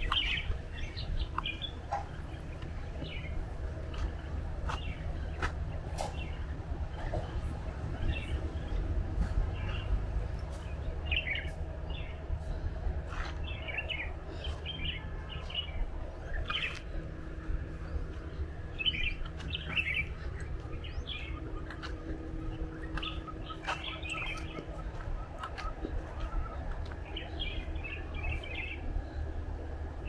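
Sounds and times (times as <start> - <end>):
birds chirping: 0.0 - 30.0
steady low rumble: 0.0 - 30.0.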